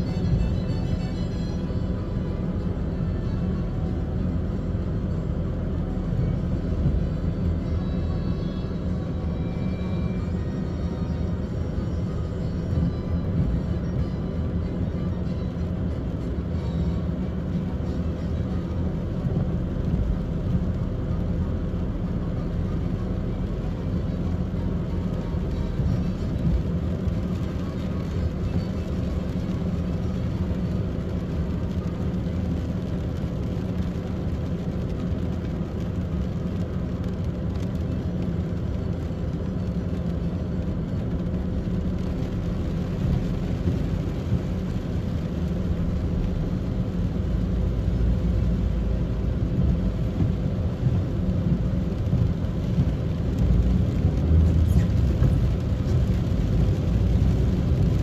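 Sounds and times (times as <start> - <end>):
car engine low drone: 0.0 - 58.0
rain hissing on windscreen: 0.0 - 58.0.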